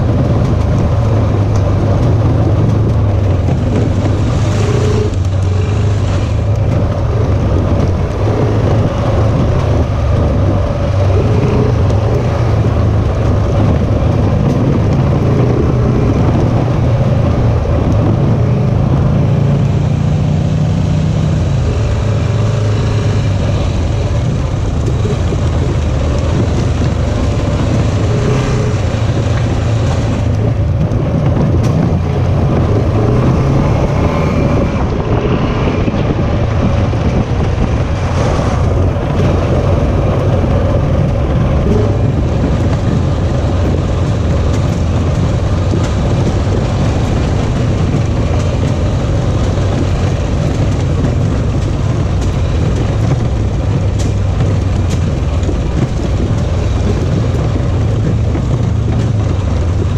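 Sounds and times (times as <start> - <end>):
vehicle engine running: 0.0 - 59.9
wind buffeting microphone: 0.0 - 59.9.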